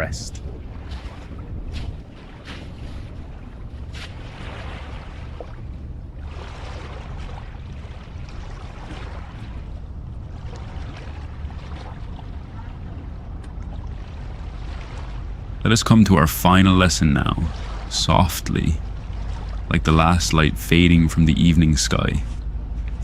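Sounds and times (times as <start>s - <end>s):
ocean waves washing in: 0.0s - 23.0s.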